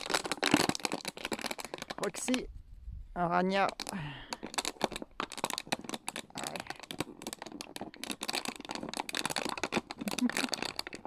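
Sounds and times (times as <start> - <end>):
plastic bottle crinkling: 0.0 - 2.6, 3.3 - 11.0.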